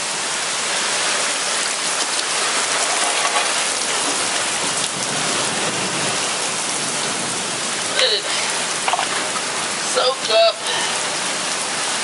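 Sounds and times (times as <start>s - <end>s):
rain falling on ground: 0.0s - 12.0s.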